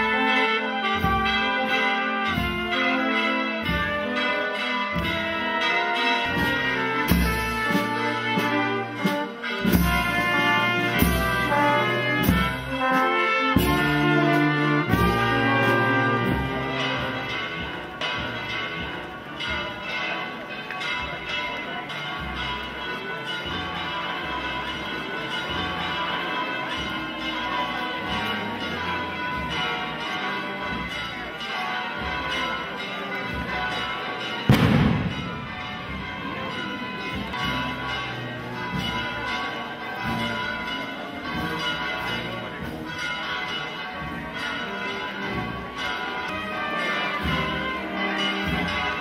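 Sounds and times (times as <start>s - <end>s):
church bells ringing: 0.0s - 49.0s.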